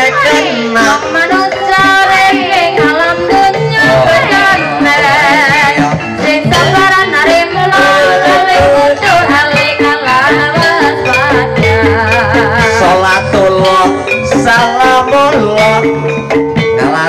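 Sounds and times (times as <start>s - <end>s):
gamelan ringing tones: 0.0s - 17.0s
person singing melismatically: 0.0s - 17.0s
repeating drum beat: 0.0s - 17.0s.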